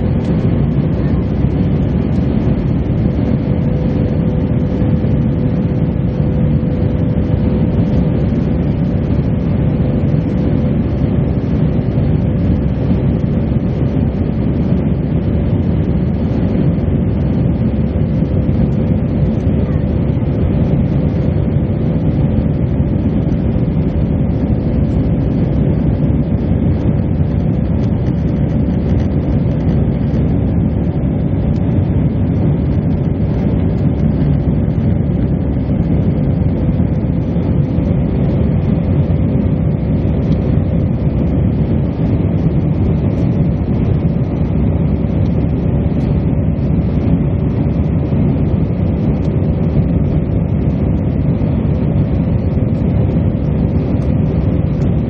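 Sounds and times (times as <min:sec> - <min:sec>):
jet engine roar in cabin: 0:00.0 - 0:55.0
mid-pitched hum: 0:00.0 - 0:55.0.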